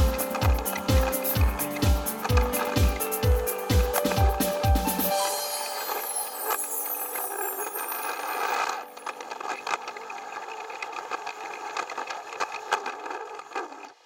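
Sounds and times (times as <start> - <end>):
toy train motor whirring: 0.0 - 4.3, 5.2 - 14.0
toy train wheels clattering: 0.0 - 4.5, 5.1 - 14.0.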